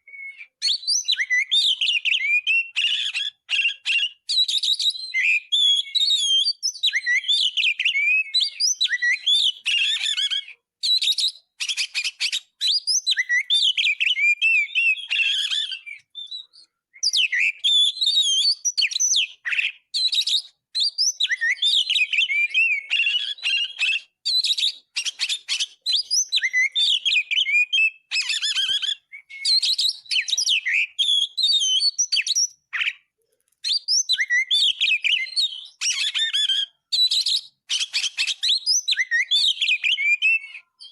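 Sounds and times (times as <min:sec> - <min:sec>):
bird singing with whistles and trills: 0:00.0 - 0:40.9.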